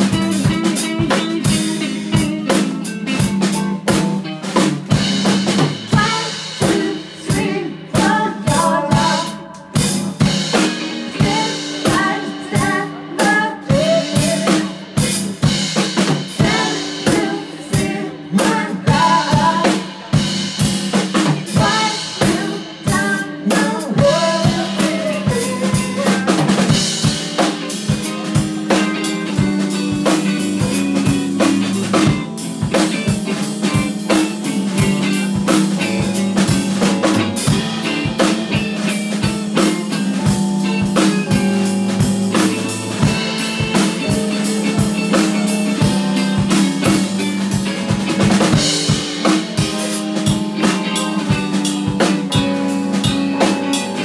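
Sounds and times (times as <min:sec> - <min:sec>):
drum kit beat: 0:00.0 - 0:54.0
guitar: 0:00.0 - 0:54.0
keyboard: 0:00.0 - 0:54.0.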